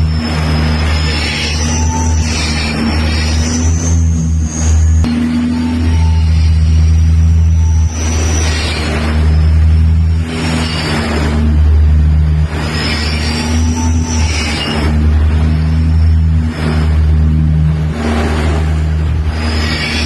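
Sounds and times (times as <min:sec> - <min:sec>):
faint high whine: 0:00.0 - 0:20.0
low engine-like drone: 0:00.0 - 0:20.0
rushing noise surges: 0:00.0 - 0:20.0.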